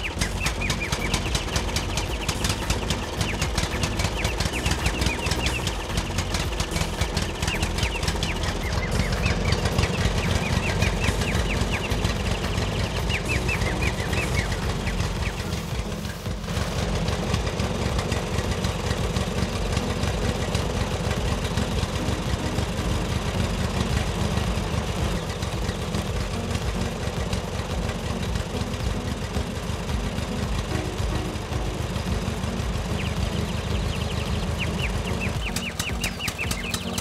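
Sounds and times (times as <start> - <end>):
diesel engine chugging: 0.0 - 37.0.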